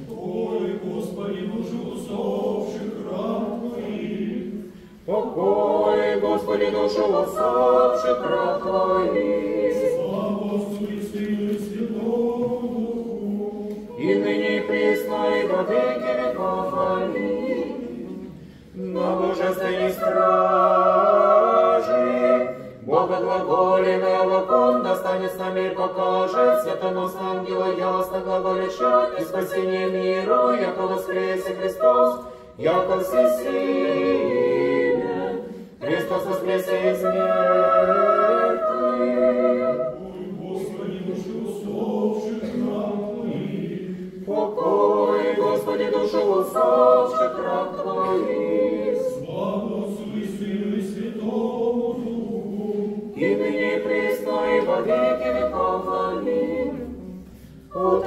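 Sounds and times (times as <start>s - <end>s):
choir chanting unaccompanied: 0.0s - 58.0s.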